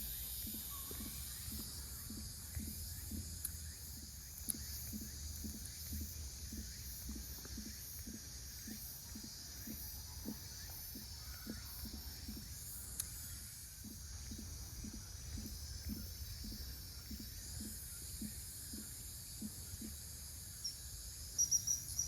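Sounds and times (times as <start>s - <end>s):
insect chorus shrilling: 0.0s - 22.0s.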